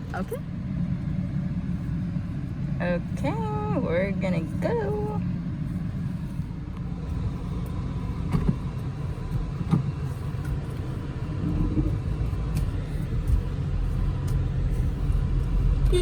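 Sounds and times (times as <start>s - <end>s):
car driving off: 0.0s - 16.0s.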